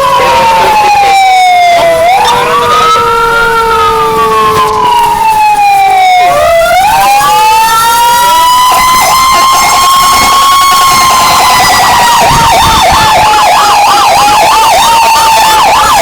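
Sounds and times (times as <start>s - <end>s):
fire engine sirens wailing: 0.0s - 16.0s.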